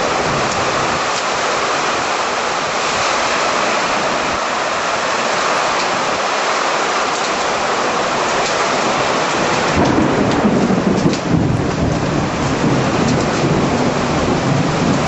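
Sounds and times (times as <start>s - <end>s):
heavy rain pouring: 0.0s - 15.0s
thunder rumbling: 0.0s - 15.0s.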